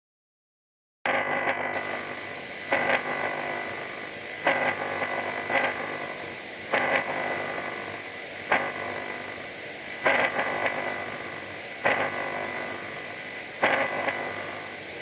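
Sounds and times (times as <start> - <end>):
distorted electronic drone: 1.1 - 15.0
sharp noise bursts: 1.1 - 15.0
steady high whine: 1.1 - 15.0.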